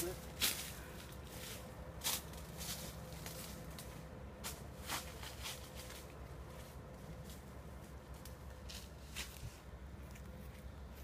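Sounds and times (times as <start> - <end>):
footsteps crunching through dry brush: 0.2 - 11.0.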